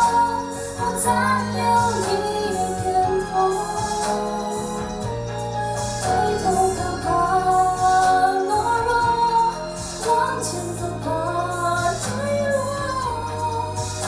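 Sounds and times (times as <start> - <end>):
instrumental accompaniment: 0.0 - 14.0
woman singing pop ballad: 0.0 - 14.0.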